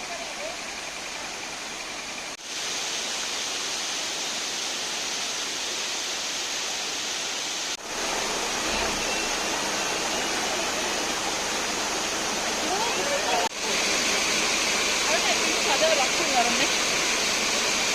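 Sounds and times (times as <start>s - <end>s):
waterfall rushing: 0.0s - 17.9s.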